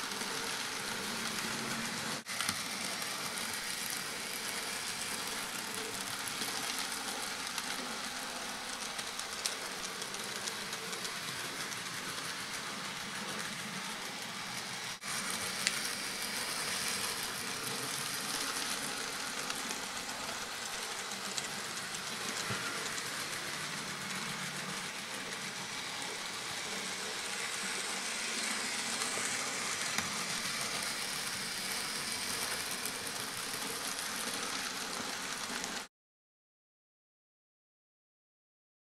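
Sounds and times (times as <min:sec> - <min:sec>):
model train motor whirring: 0:00.0 - 0:35.9.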